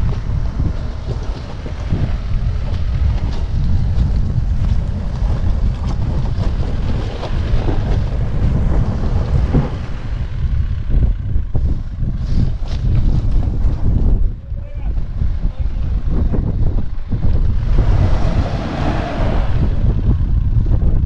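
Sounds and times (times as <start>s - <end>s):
diesel vehicle crawling over rock: 0.0s - 21.0s
wind buffeting microphone: 0.0s - 21.0s.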